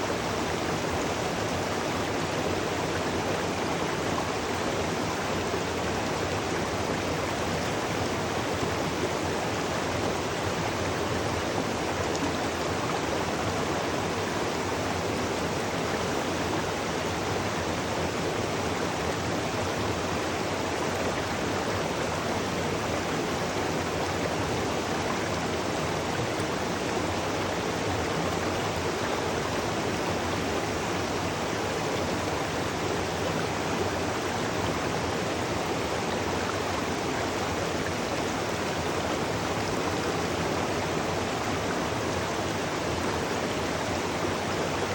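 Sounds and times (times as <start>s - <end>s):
waterfall and stream rushing: 0.0s - 44.9s.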